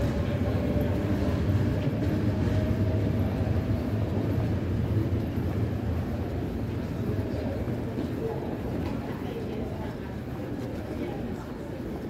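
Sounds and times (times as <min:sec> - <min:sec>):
faint train whine: 0:00.0 - 0:12.0
train rumbling overhead: 0:00.0 - 0:12.0.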